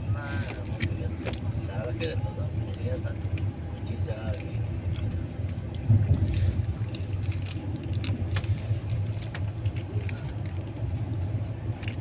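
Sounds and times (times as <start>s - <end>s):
train rumbling: 0.0s - 12.0s
train clicks and rattles: 0.4s - 12.0s.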